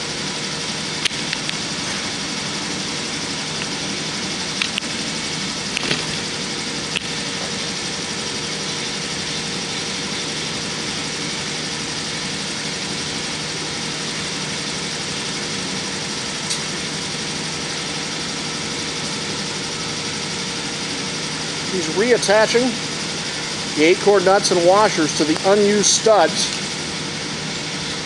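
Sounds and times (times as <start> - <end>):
machinery hum and hiss: 0.0 - 28.0.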